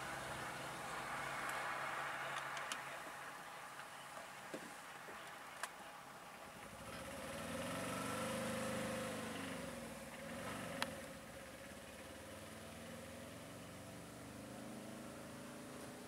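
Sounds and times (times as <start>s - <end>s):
truck engine pulling away: 0.0s - 3.7s, 6.4s - 16.0s.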